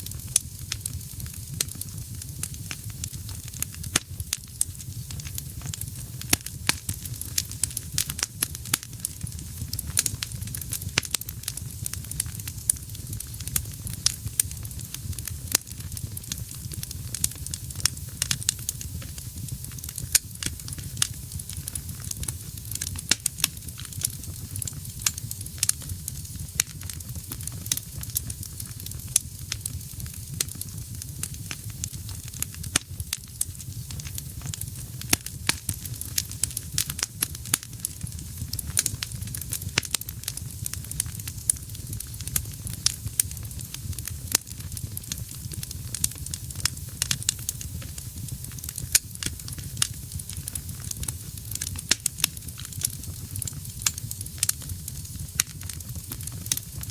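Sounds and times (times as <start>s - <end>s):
crackles and pops of logs: 0.0s - 56.9s
wood fire rumble and hiss: 0.0s - 56.9s.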